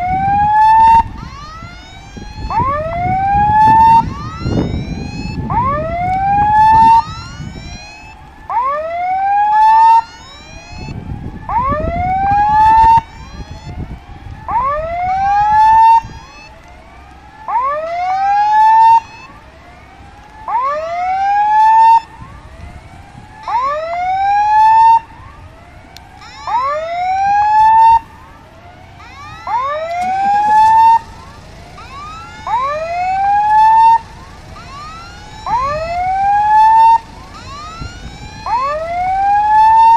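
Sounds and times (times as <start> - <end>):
electronic rising whoop alarm: 0.0 - 39.9.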